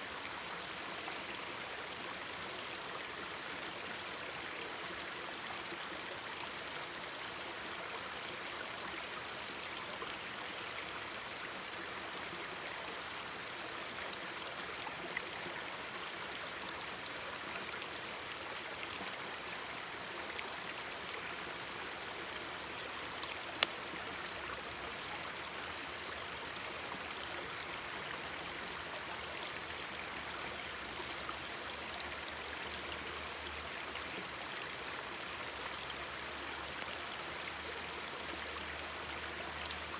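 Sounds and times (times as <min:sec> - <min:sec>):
mountain stream babbling: 0:00.0 - 0:39.9.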